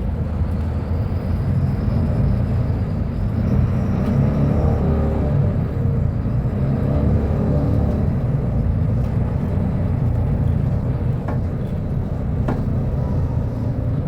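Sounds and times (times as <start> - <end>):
bus diesel engine rumbling: 0.0 - 14.0.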